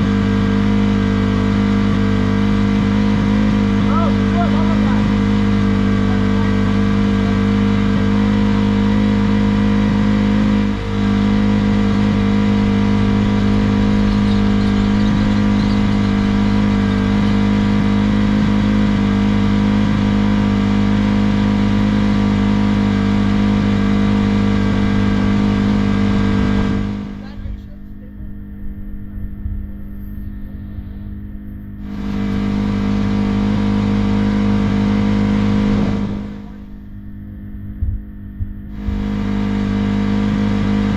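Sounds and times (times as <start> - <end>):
engine running loud: 0.0 - 40.9.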